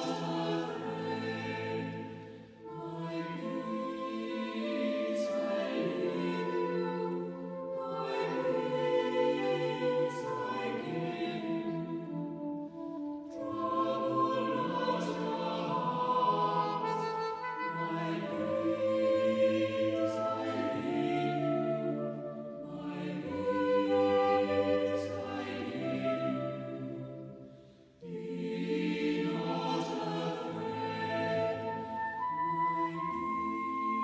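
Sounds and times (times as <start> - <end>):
choir singing a worship song: 0.0 - 12.3, 13.3 - 34.0.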